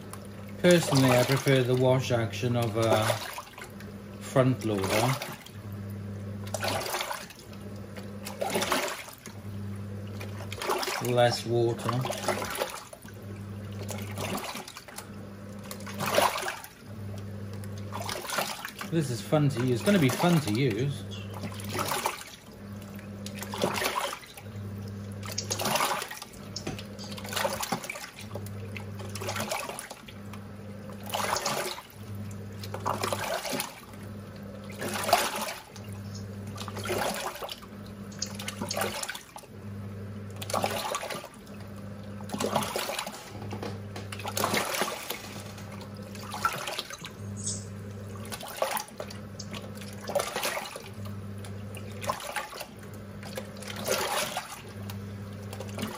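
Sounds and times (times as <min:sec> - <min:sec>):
washing machine motor humming: 0:00.0 - 0:55.9
water sloshing in tub: 0:00.0 - 0:55.9.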